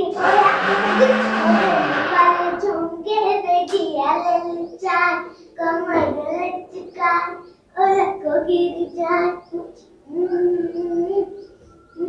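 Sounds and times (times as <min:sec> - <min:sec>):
girl singing unaccompanied: 0:00.0 - 0:12.0.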